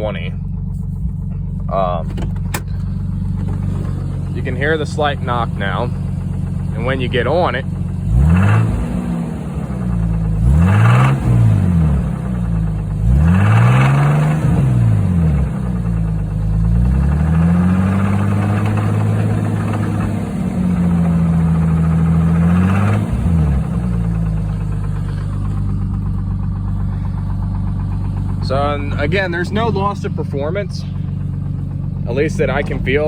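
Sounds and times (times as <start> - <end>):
car engine revving: 0.0 - 33.0
engine knock: 0.0 - 33.0.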